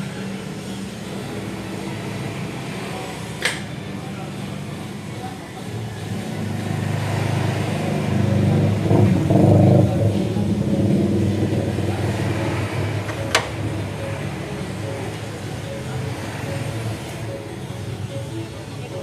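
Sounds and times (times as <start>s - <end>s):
car engine revving and running: 0.0s - 19.0s.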